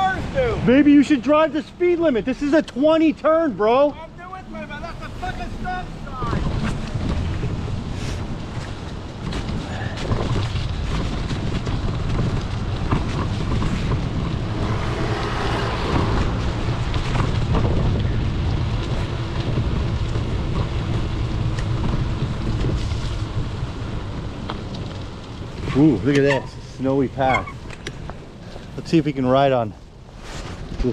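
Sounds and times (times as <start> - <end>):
tyres on snowy streets: 0.0 - 30.9
wind buffeting microphone: 0.0 - 30.9
bike rattle: 6.0 - 30.9.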